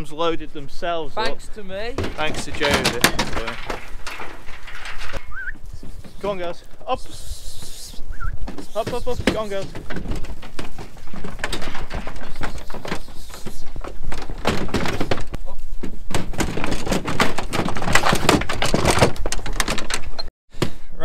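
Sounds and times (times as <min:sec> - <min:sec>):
sheep hooves clattering on metal ramp: 0:01.8 - 0:07.2, 0:08.3 - 0:20.2.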